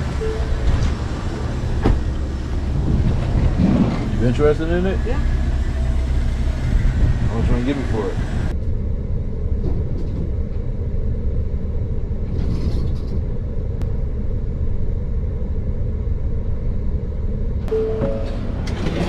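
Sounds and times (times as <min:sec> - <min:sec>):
muffled vehicle rumble: 0:00.0 - 0:19.0.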